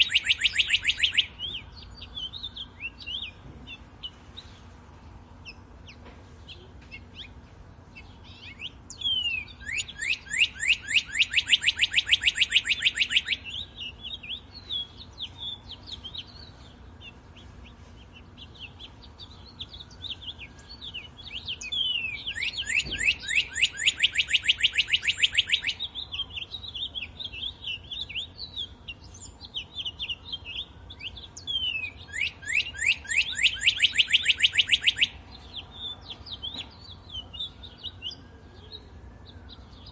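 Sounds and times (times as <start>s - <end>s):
soft bird chirps and calls: 0.0s - 39.9s.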